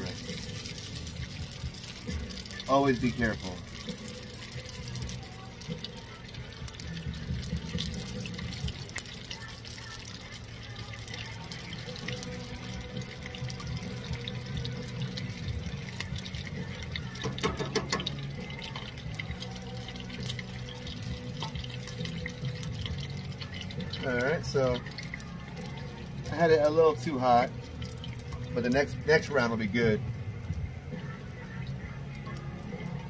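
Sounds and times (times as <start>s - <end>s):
oil sizzling and crackling: 0.0s - 33.0s.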